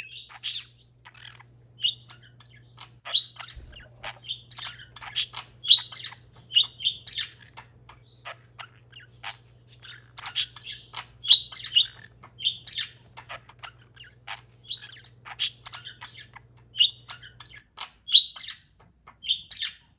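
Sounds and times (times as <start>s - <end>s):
parakeet chirping and squawking: 0.0s - 19.9s.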